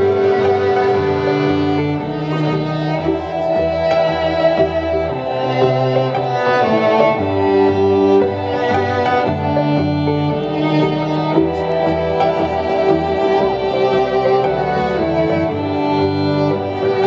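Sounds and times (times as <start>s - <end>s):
bowed violin: 0.0s - 17.0s
sustained low bass notes: 0.0s - 17.0s.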